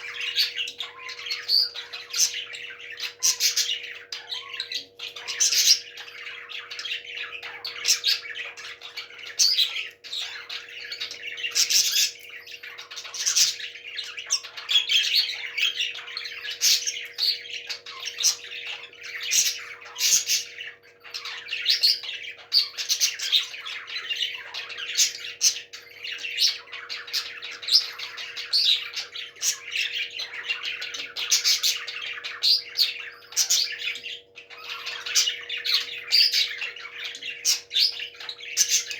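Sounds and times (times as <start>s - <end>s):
parrots squawking and chattering: 0.0s - 38.9s.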